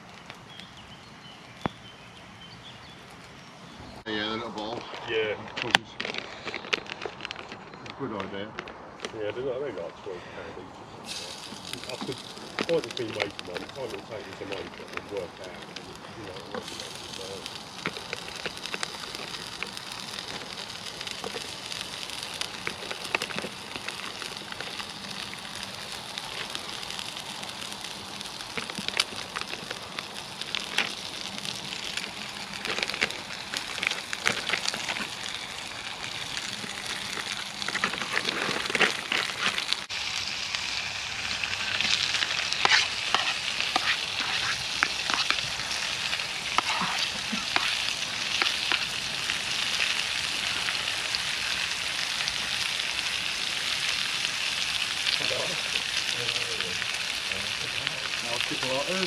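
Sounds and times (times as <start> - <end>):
food sizzling in a frying pan: 11.0 - 59.0.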